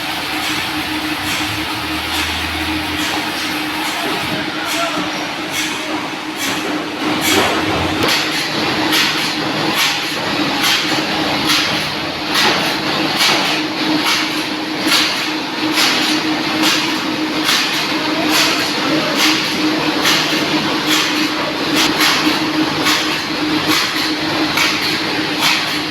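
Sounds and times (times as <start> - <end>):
sawmill machinery hum: 0.0 - 25.9.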